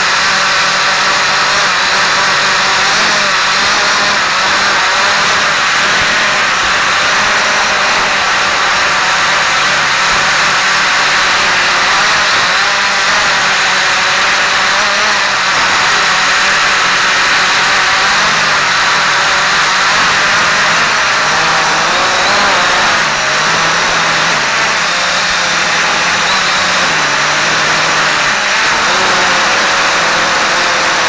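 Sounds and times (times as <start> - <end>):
quadcopter motors whirring: 0.0 - 31.0.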